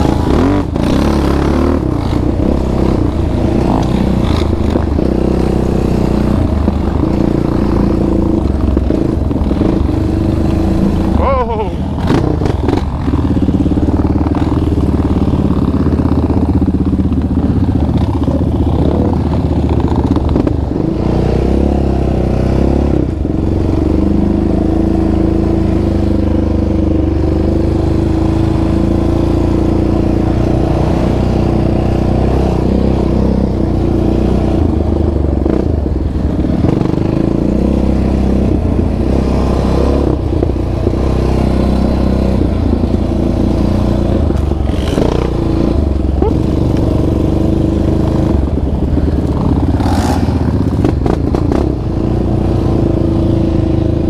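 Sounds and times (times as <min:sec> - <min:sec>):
atv engine running under throttle: 0:00.0 - 0:54.0.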